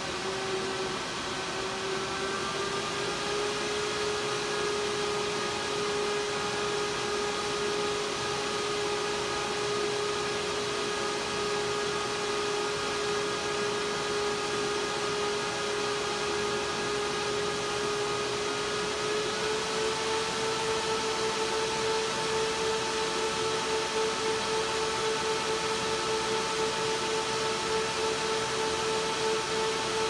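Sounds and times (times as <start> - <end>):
cooling fans rushing and whining: 0.0 - 30.0.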